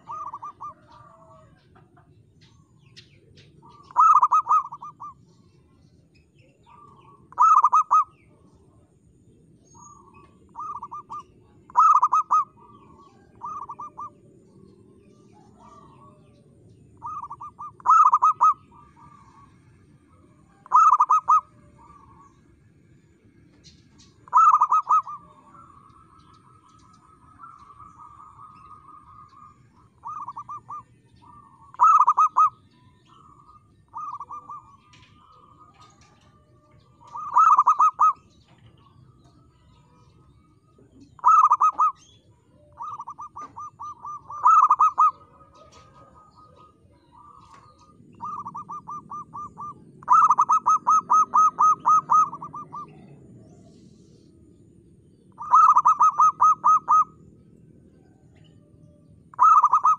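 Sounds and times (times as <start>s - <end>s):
dove rolling trill: 0.0s - 2.1s, 3.5s - 5.5s, 6.4s - 8.4s, 9.8s - 23.3s, 24.1s - 53.4s, 55.2s - 59.9s
dove cooing: 0.0s - 5.7s, 6.4s - 8.9s, 9.8s - 22.7s, 23.6s - 59.9s.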